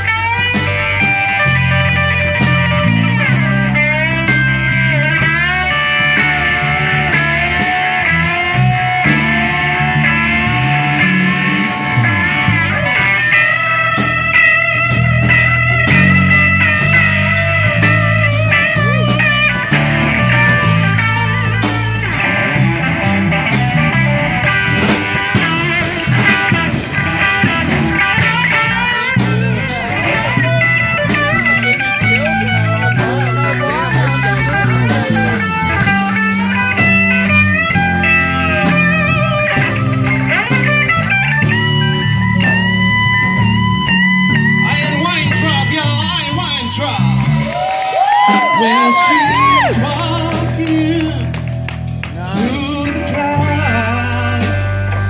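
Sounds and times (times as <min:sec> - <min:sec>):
bass line: 0:00.0 - 0:55.0
drums: 0:00.0 - 0:55.0
electric guitar solo: 0:00.0 - 0:55.0.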